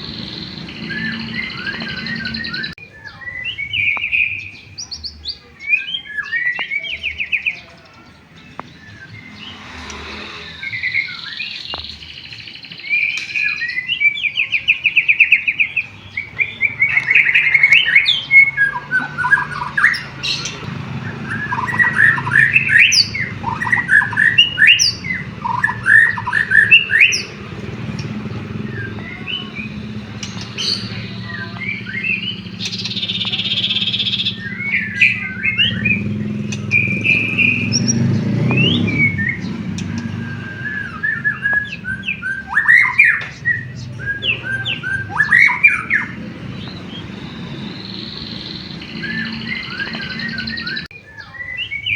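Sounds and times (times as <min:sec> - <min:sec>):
bird singing varied song: 0:00.0 - 0:51.9.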